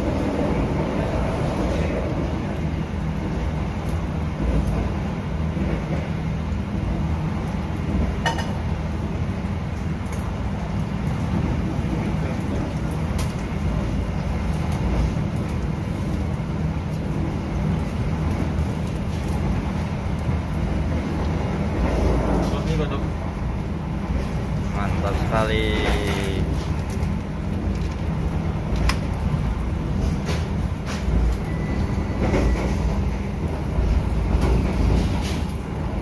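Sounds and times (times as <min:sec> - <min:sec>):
train rumbling at speed: 0:00.0 - 0:36.0.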